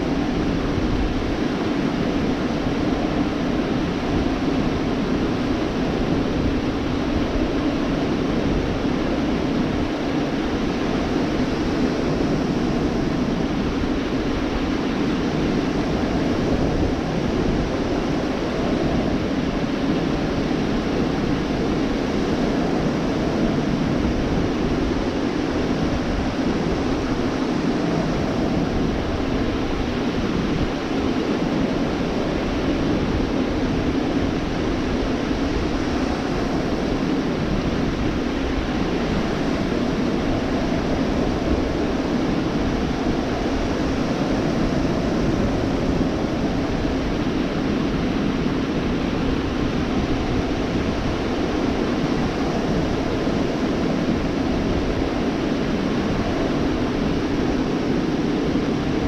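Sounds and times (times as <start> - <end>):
surf washing on beach: 0.0 - 59.0.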